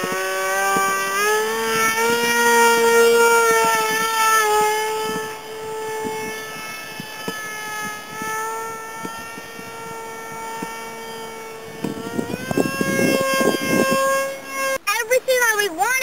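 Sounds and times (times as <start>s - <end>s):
wind buffeting microphone: 0.0s - 15.3s
model plane motor whining: 0.0s - 16.0s.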